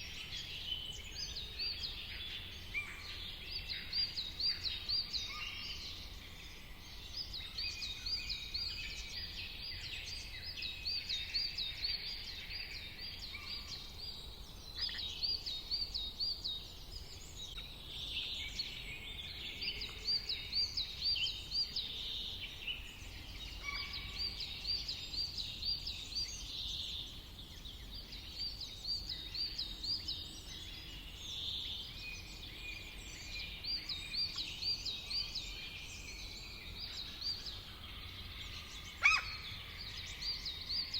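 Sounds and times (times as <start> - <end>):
chorus of songbirds: 0.0 - 40.9.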